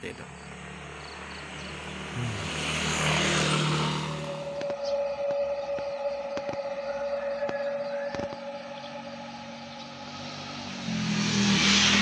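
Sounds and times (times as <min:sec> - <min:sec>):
motorcycle engine approaching: 0:00.0 - 0:12.0.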